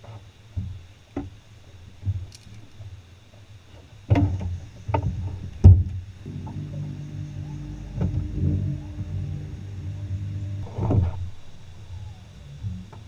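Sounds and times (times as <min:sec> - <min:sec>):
steady hum: 0:00.7 - 0:13.0.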